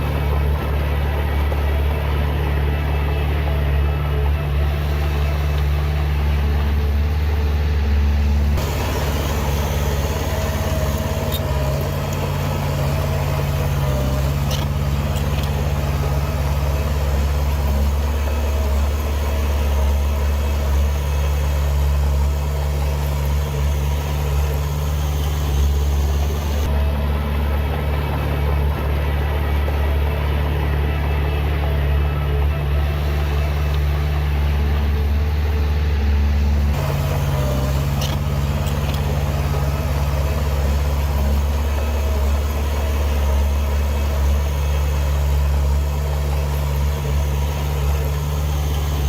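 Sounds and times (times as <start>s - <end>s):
heavy machinery engine drone: 0.0s - 49.0s.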